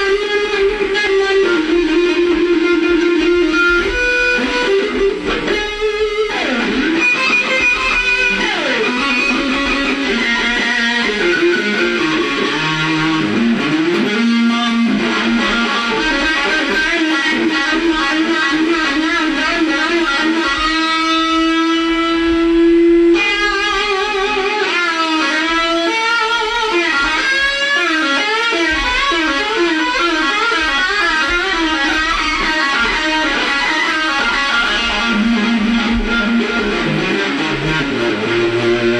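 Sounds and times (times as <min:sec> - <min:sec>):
electric guitar lead line: 0:00.0 - 0:38.9.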